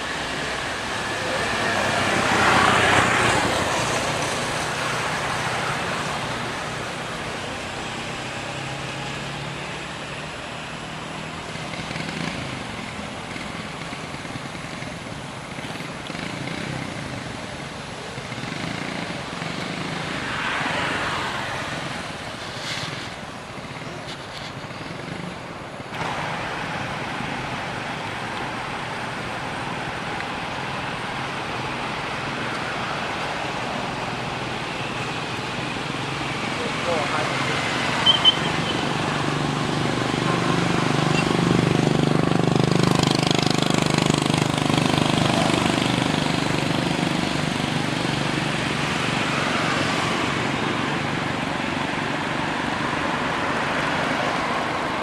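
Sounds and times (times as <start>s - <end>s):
vehicle passing: 0.0s - 15.0s, 15.8s - 25.2s, 25.9s - 55.0s
traffic hum: 0.0s - 55.0s.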